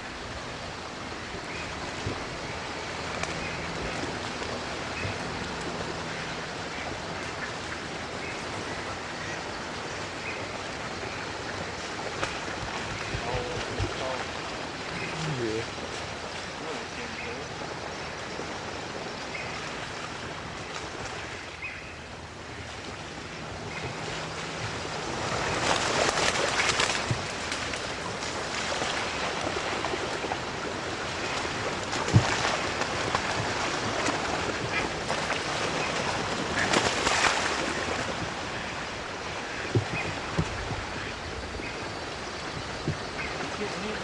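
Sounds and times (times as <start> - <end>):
ducks wings rushing: 1.2 - 44.0.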